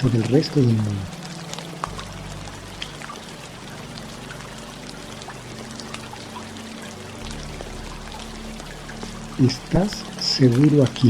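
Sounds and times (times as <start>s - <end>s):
soft music bed: 0.0s - 11.0s
steady rainfall: 0.0s - 11.0s.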